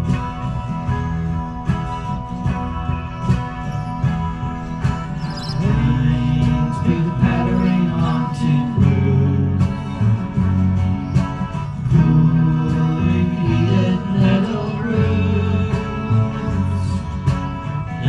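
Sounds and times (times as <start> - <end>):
country music with acoustic guitar: 0.0 - 18.0.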